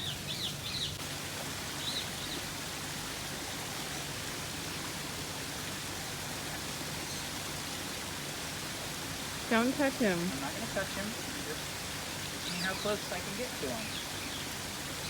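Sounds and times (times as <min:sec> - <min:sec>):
steady rushing hiss: 0:00.9 - 0:15.0.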